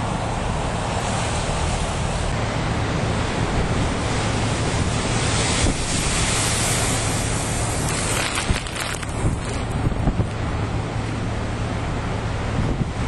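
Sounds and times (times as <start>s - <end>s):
surf crashing against seawall: 0.0s - 13.0s
wind buffeting microphone: 0.0s - 13.0s.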